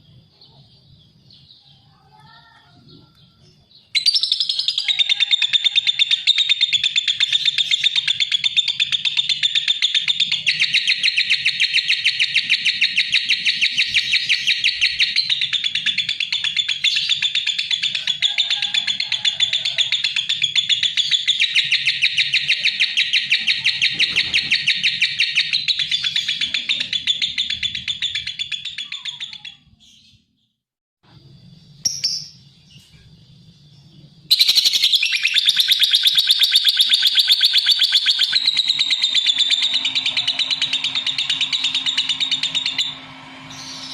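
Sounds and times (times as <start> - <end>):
lovebird chattering: 4.0 - 29.7, 34.3 - 43.9.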